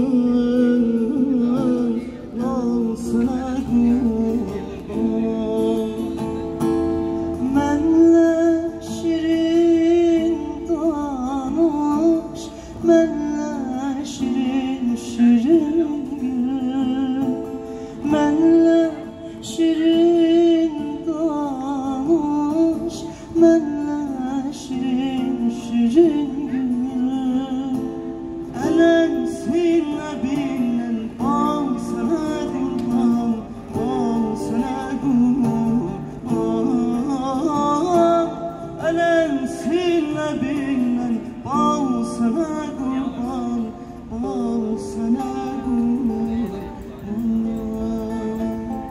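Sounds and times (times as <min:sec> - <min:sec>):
man singing into microphone: 0:00.0 - 0:48.9
plucked acoustic guitar: 0:00.0 - 0:48.9.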